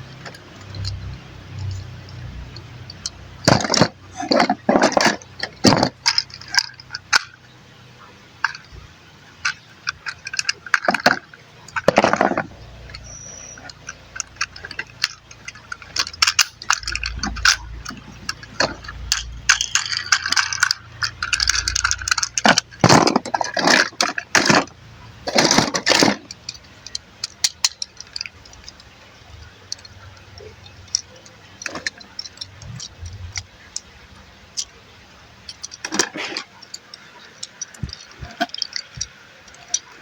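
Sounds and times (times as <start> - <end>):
plastic toy parts clicking: 0.0 - 40.0.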